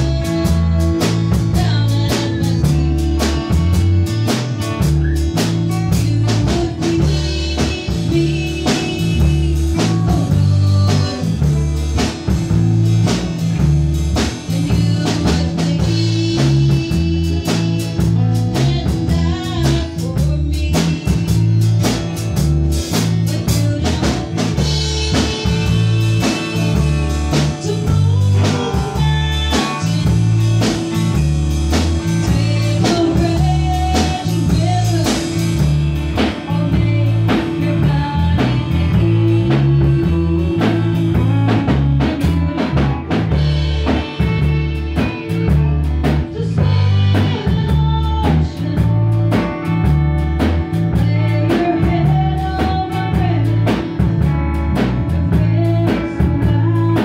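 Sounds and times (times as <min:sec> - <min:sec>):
acoustic guitar: 0:00.0 - 0:57.0
drum kit: 0:00.0 - 0:57.0
repeating bass line: 0:00.0 - 0:57.0.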